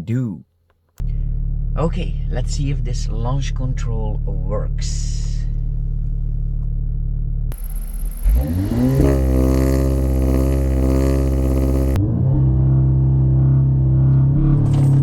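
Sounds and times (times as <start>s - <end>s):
car engine accelerating: 1.0s - 15.0s.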